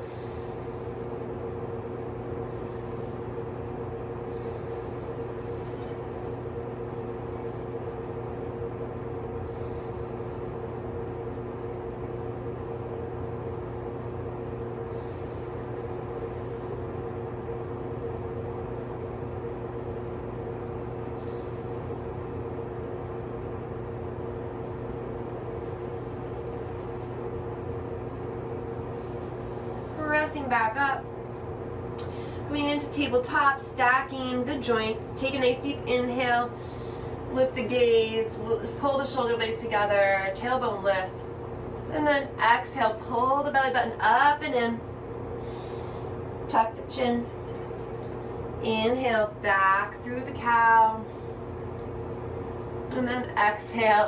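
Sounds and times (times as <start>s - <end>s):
steady machine hum: 0.0s - 54.0s.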